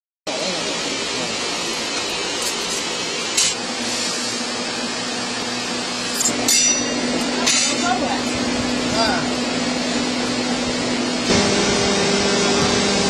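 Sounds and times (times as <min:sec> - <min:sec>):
hydraulic machine running: 0:00.3 - 0:13.0.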